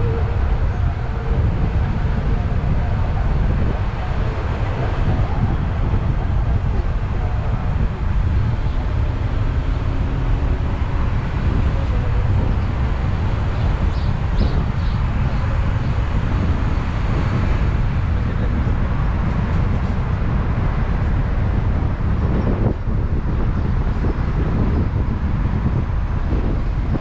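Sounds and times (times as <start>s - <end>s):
vehicle rumbling: 0.0s - 27.0s
wind noise: 0.0s - 27.0s.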